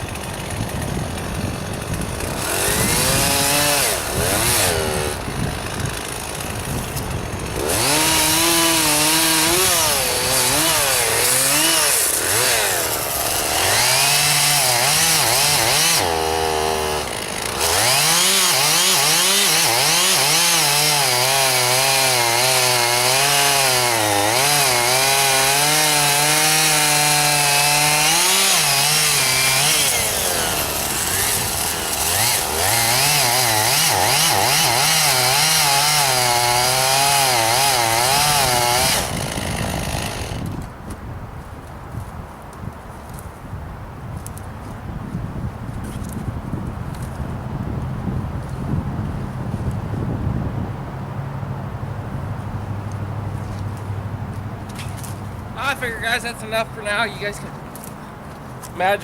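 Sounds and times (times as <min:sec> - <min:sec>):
chainsaw cutting wood: 0:00.0 - 0:40.8, 0:45.8 - 0:49.8, 0:52.4 - 0:59.0.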